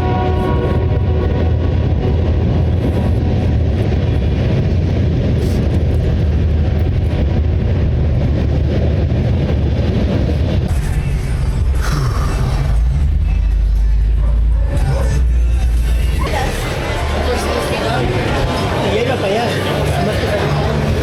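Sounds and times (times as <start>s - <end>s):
train passing with loud rumble: 0.0s - 21.0s.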